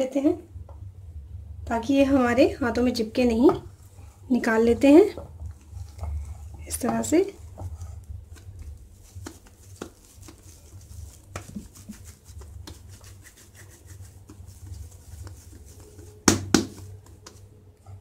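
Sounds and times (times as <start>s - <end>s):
dough rubbing and squishing: 1.7s - 18.0s.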